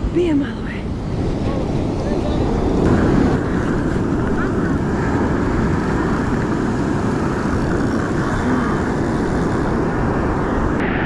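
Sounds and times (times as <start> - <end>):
breaking surf: 0.0 - 11.0
wind buffeting microphone: 0.0 - 11.0.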